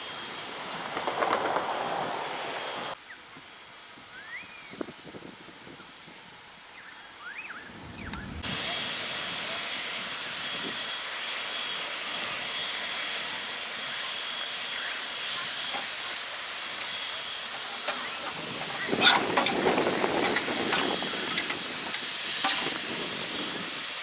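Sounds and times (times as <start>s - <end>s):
steam locomotive hissing steam: 0.0s - 24.0s.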